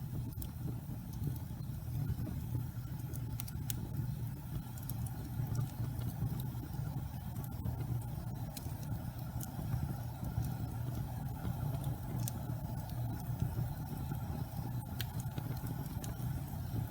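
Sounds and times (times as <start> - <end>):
fire crackling and popping: 0.0 - 16.9
wood fire rumbling: 0.0 - 16.9.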